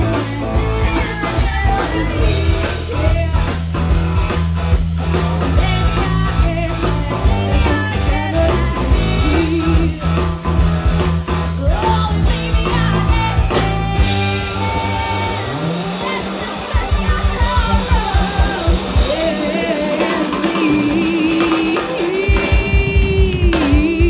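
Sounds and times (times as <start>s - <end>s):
women singing: 0.0s - 3.6s, 5.4s - 10.4s, 11.6s - 24.0s
bass: 0.0s - 24.0s
country-rock song through pa: 0.0s - 24.0s
drums: 0.0s - 24.0s
electric guitar: 0.0s - 24.0s.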